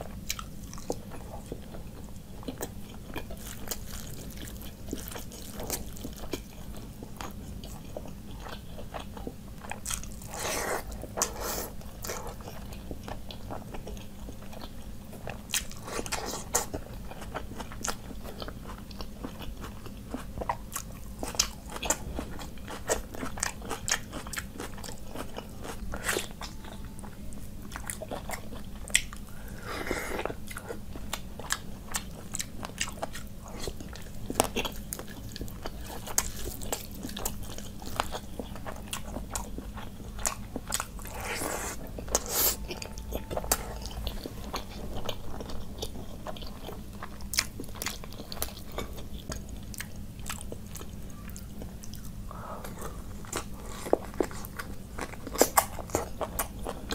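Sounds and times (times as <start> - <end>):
person chewing wetly: 0.2 - 56.9.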